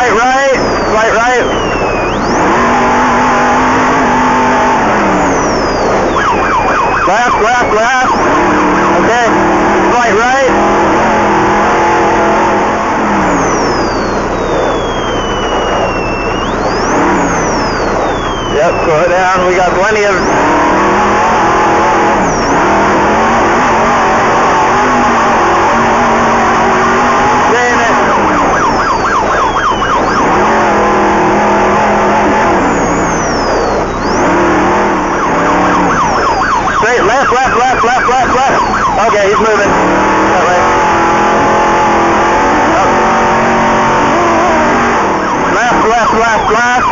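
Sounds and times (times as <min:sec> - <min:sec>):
race vehicle engine: 0:00.0 - 0:46.9
road and dust noise: 0:00.0 - 0:46.9
thin high whine: 0:00.0 - 0:46.9.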